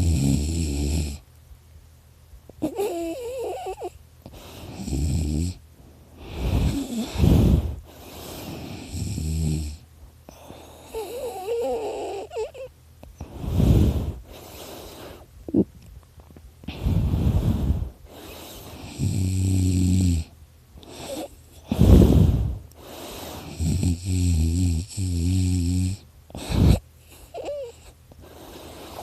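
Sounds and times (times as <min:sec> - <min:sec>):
person snoring: 0:00.0 - 0:01.2, 0:02.6 - 0:05.6, 0:06.2 - 0:15.7, 0:16.7 - 0:29.0.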